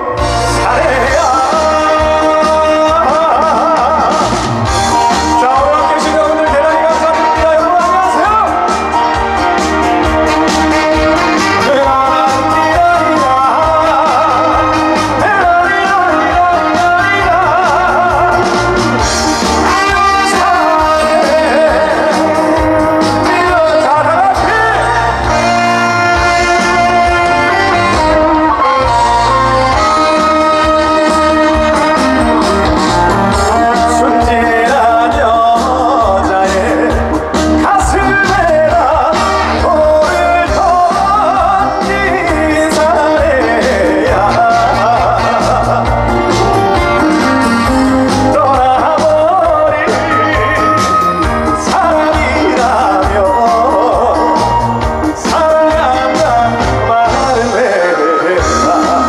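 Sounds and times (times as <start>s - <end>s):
live band accompaniment: 0.0s - 59.0s
person singing with vibrato: 0.0s - 59.0s.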